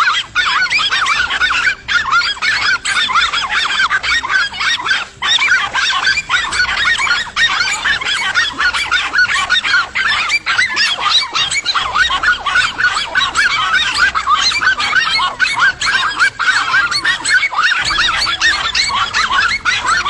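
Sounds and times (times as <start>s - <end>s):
chorus of high animal calls: 0.0s - 20.0s.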